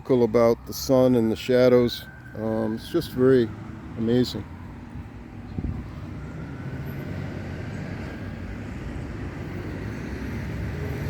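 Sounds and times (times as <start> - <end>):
passing motor vehicle rumble: 2.1 - 11.0.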